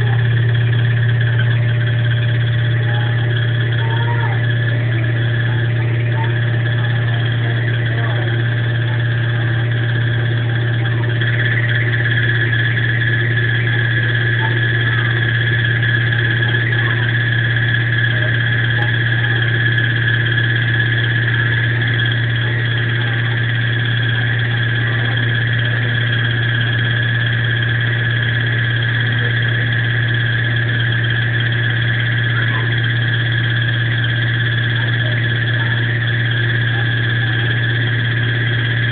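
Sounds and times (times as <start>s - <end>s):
high whine: 0.0s - 38.9s
washing machine spinning hum: 0.0s - 38.9s.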